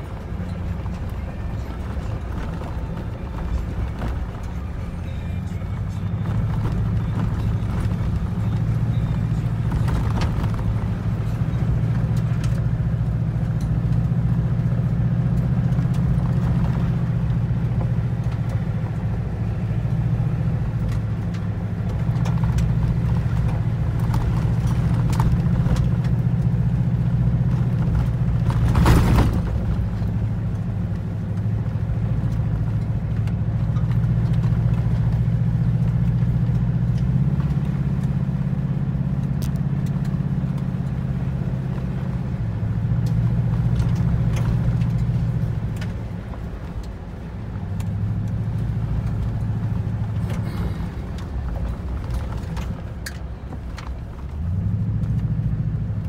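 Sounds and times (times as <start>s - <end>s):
engine and tyre drone: 0.0s - 56.0s
gravel clicks: 0.0s - 56.0s.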